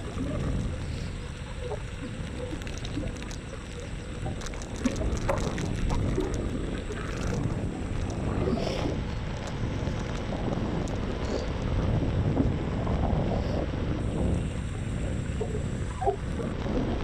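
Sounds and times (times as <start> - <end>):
scooter road rumble: 0.0 - 17.0
wind buffeting microphone: 0.0 - 17.0.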